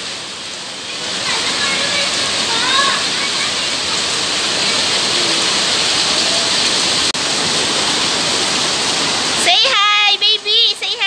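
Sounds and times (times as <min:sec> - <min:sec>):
rain on wet pavement: 0:00.0 - 0:11.0.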